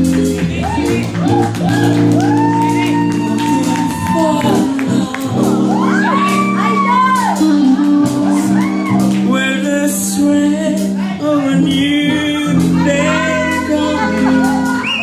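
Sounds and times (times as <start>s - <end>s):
man singing into a microphone: 0.0s - 1.7s, 2.5s - 15.0s
bass guitar: 0.0s - 15.0s.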